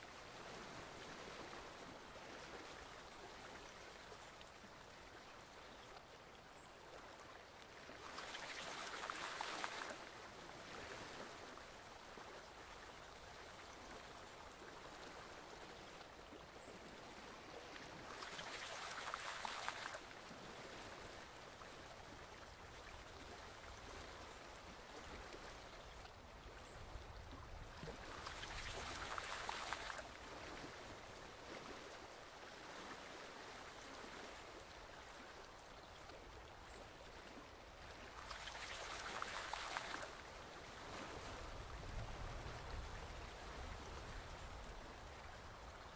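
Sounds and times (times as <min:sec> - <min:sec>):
forest stream flowing: 0:00.0 - 0:45.9.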